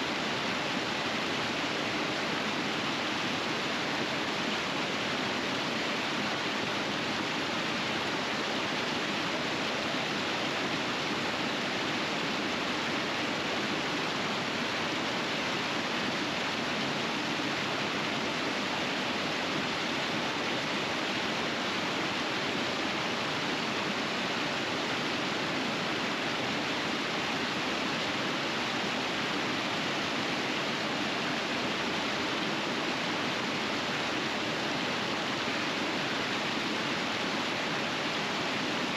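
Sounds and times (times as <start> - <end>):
river rushing over rapids: 0.0 - 38.9.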